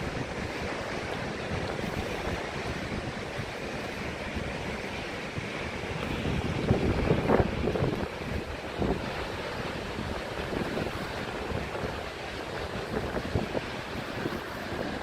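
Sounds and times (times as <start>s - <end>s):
ocean waves washing onto beach: 0.0s - 15.0s
wind noise on microphone: 0.0s - 15.0s.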